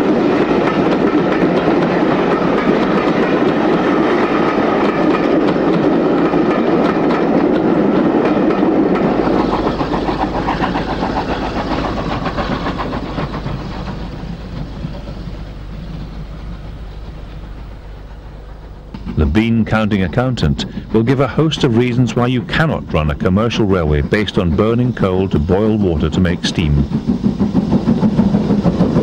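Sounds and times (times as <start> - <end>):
train coaches clattering over rails: 0.0 - 17.5, 18.4 - 29.0.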